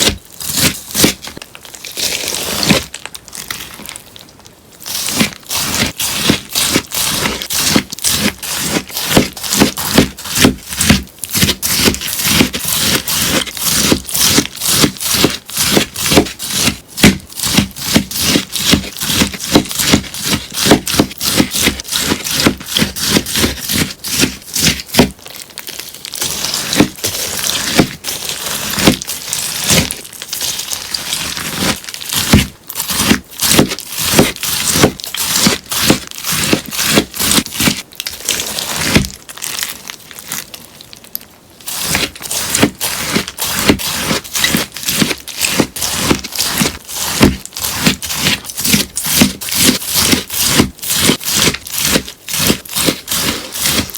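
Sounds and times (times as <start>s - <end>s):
scissors snipping sponge: 0.0s - 1.4s, 4.8s - 25.2s, 26.1s - 39.1s, 41.7s - 53.9s.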